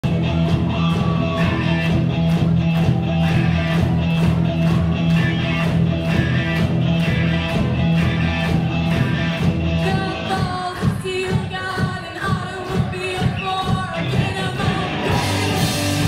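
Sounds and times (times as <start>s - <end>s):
electric guitars: 0.0s - 11.4s, 12.7s - 16.0s
steady drumbeat: 0.0s - 16.0s.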